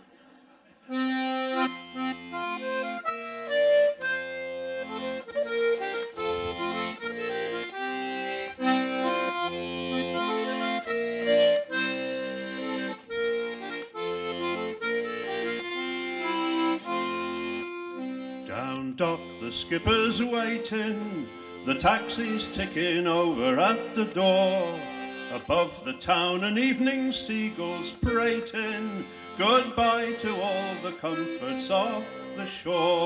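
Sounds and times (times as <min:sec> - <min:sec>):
button accordion melody: 0:00.9 - 0:33.0.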